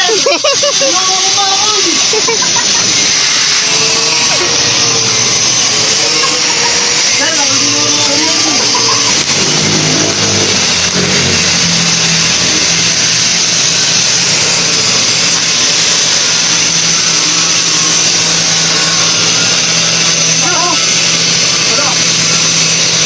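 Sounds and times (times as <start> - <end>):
engine running: 0.0 - 23.0
loud hiss: 0.0 - 23.0.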